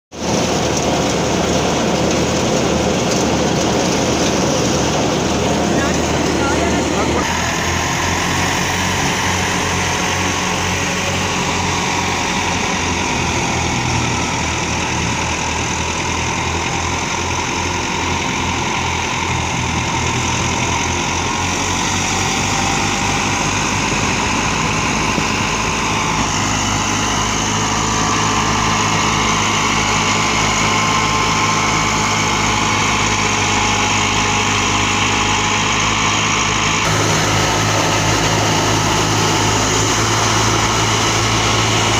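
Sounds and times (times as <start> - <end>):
tractor diesel engines running: 0.1 - 41.9
threshing machine whirr: 0.2 - 41.9.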